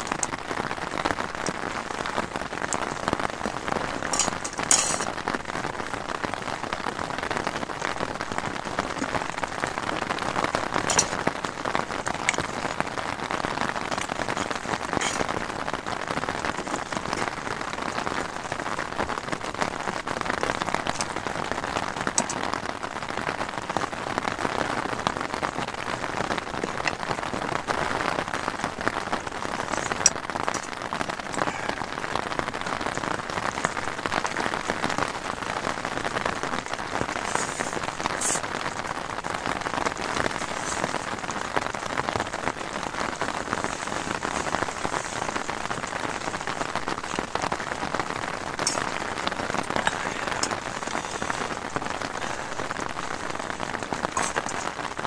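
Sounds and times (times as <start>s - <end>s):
heavy rain drumming on tent: 0.0s - 55.0s.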